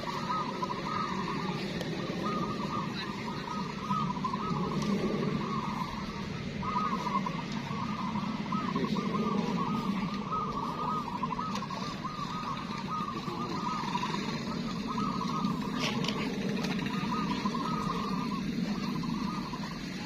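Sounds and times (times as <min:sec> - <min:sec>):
doves cooing: 0:00.0 - 0:20.0
low background hum: 0:00.0 - 0:20.0.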